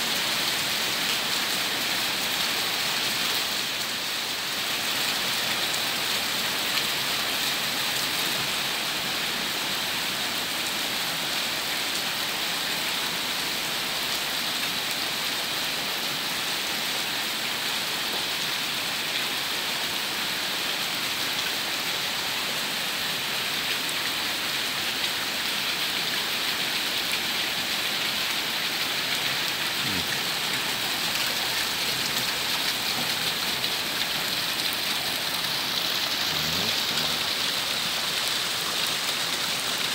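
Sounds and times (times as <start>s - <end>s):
heavy rain on puddles: 0.0s - 39.9s.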